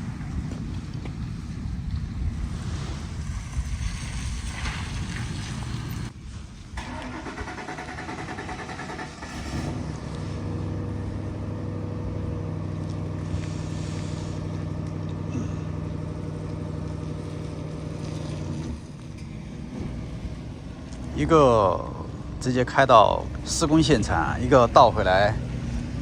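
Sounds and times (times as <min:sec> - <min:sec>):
vehicle engine running: 0:00.0 - 0:06.1, 0:06.9 - 0:26.0.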